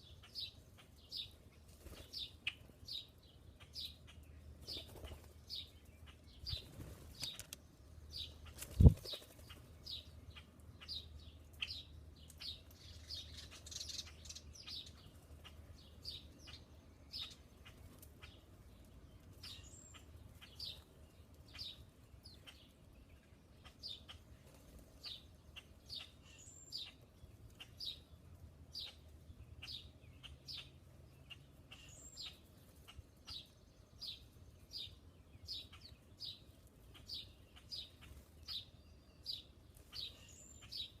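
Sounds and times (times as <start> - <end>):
small bird chirping: 0.0 - 41.0.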